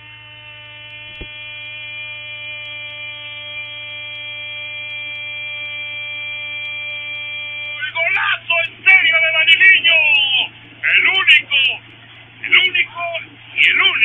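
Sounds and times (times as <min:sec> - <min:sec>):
steady electronic buzz: 0:00.0 - 0:14.0.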